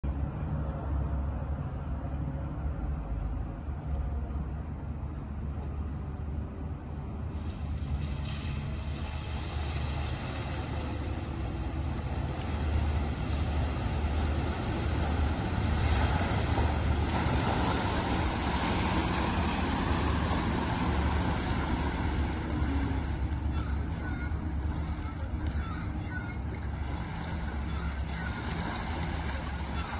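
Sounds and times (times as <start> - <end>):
low rumble: 0.0 - 29.9
water splashing and rushing: 5.0 - 29.9.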